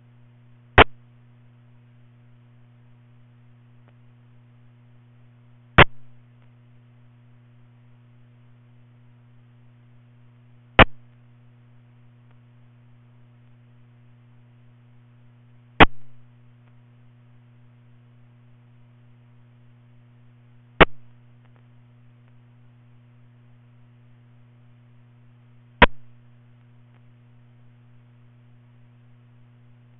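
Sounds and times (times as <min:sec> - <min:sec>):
radio scanner electrical hum: 0:00.0 - 0:29.9.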